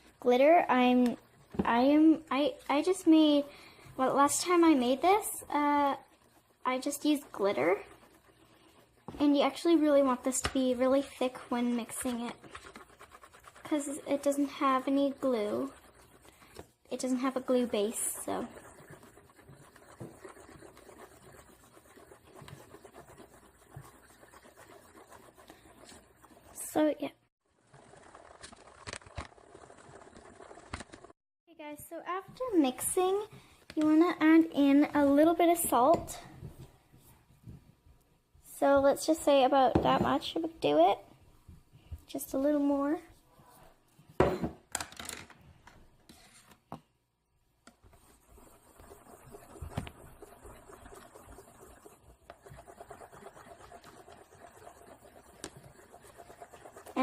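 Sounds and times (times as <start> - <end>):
stirring thick slime in bowl: 0.0 - 31.2, 31.9 - 37.7, 38.4 - 44.3, 45.8 - 46.9, 47.6 - 57.0.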